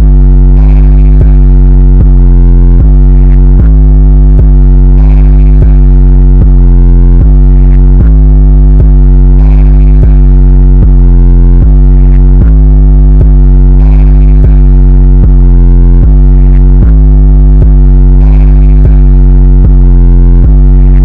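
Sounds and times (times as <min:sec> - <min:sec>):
bass-boosted electronic music: 0:00.0 - 0:21.0.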